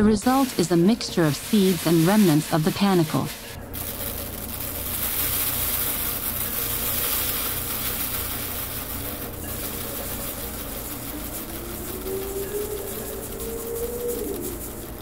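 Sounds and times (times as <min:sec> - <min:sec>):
seeds sliding across a tray: 0:00.0 - 0:15.0.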